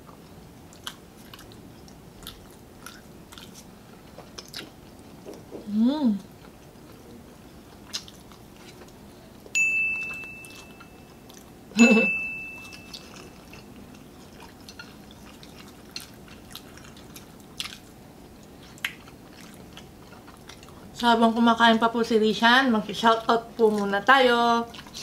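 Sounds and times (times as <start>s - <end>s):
chewing: 0.0s - 5.6s, 6.2s - 9.5s, 10.1s - 21.0s, 24.6s - 25.0s.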